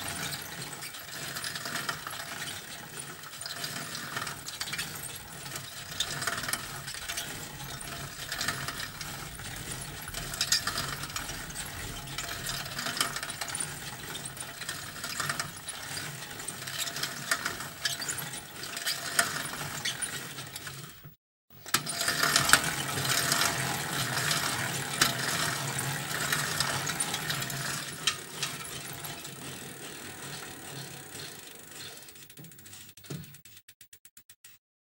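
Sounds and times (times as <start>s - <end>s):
bicycle chain rattling: 0.0s - 20.7s, 21.8s - 33.6s.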